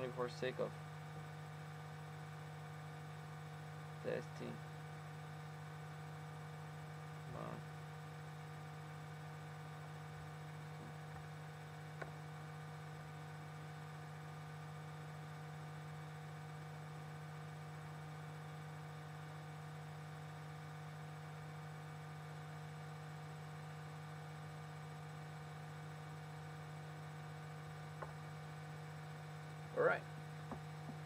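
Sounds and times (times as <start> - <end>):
steady electrical hum: 0.0 - 31.0.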